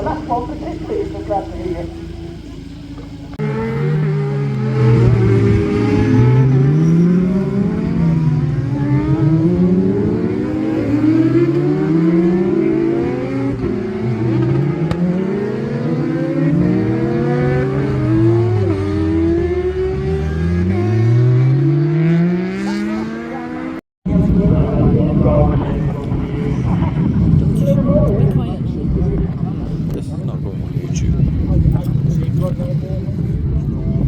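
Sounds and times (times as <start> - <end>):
racing car engines accelerating: 0.0 - 34.0.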